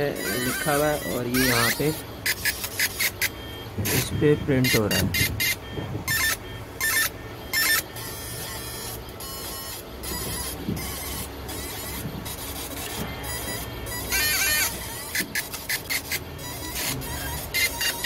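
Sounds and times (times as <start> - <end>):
laser high-pitched buzzing: 0.0 - 18.0
machine low hum: 0.0 - 18.0.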